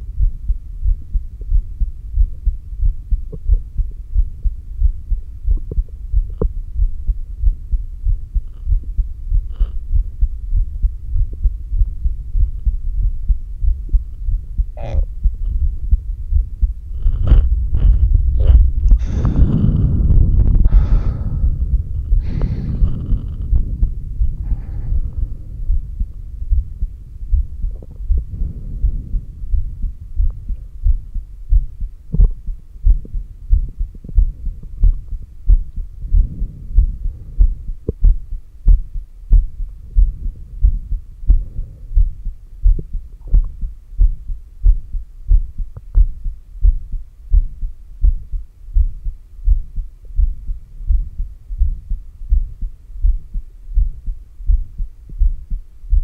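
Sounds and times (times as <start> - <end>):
heartbeat thumps through stethoscope: 0.0 - 56.0.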